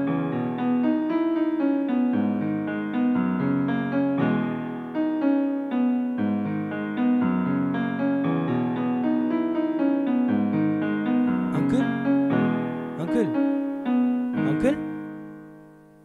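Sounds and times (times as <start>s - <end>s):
piano melody with chords: 0.0s - 16.0s.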